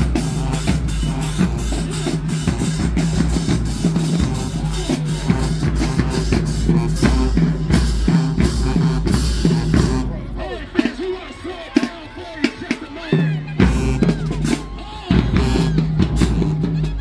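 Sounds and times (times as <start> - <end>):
music with heavy bass and drums: 0.0 - 17.0.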